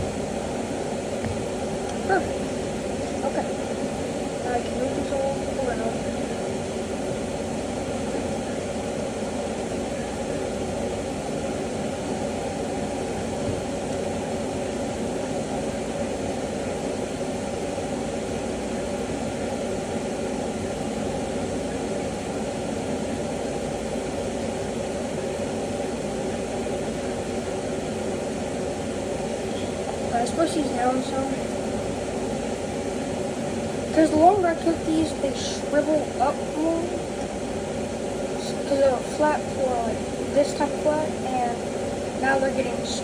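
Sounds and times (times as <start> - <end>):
constant hum: 0.0 - 43.0.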